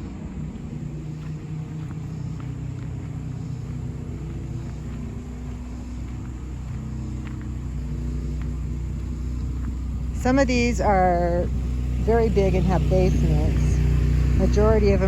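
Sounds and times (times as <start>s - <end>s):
engine running with low rumble: 0.0s - 15.0s.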